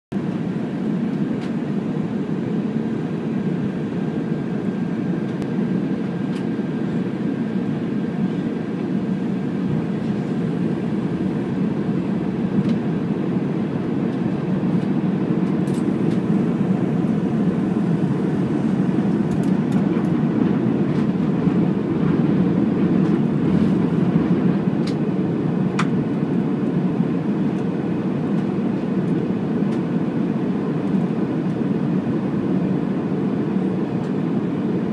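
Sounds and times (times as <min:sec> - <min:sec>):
aircraft cabin engine and airflow rush: 0:00.1 - 0:34.9.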